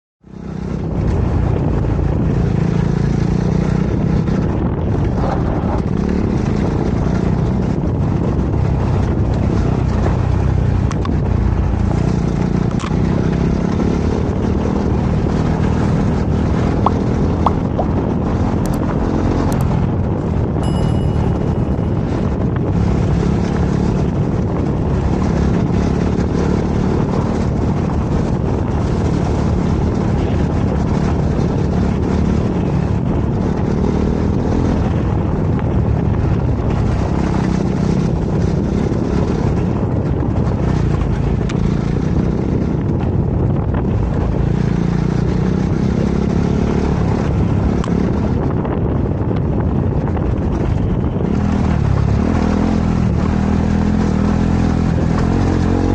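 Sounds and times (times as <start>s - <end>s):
motorcycle engine running: 0.2s - 55.9s
wind noise on microphone: 0.2s - 55.9s.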